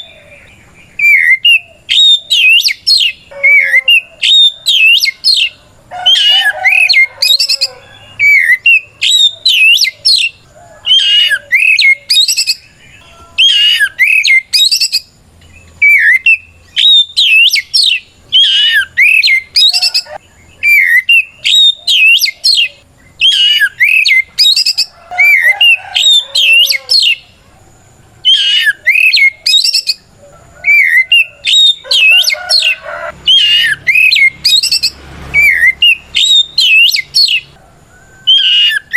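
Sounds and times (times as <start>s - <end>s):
bird singing whistled notes: 0.0s - 27.3s, 28.2s - 37.6s, 38.2s - 38.9s.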